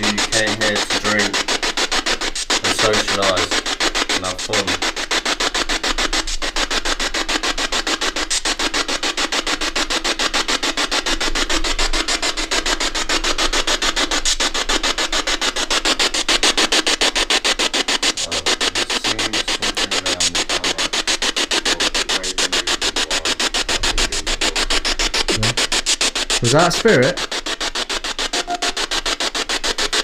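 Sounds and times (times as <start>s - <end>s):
radio static chopping: 0.0s - 30.0s.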